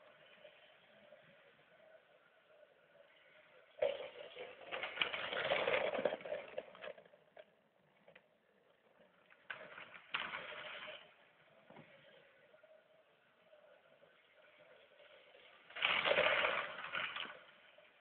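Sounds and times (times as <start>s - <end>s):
toy train wheels clattering: 0.0s - 18.0s.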